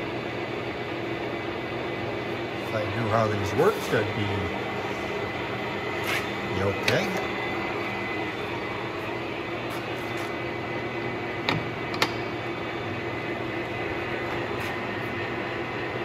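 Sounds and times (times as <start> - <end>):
lathe running with steady hum: 0.0 - 16.0.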